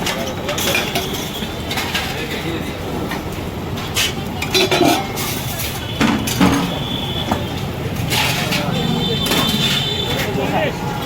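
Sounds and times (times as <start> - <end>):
metal plates and spoons clinking: 0.0 - 11.0
traffic rumble: 0.0 - 11.0.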